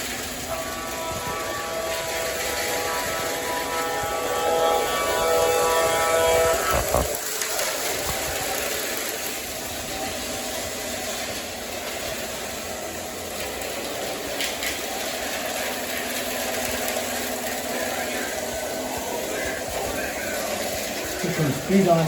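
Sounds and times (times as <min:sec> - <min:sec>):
model train rumbling on track: 0:00.0 - 0:22.0.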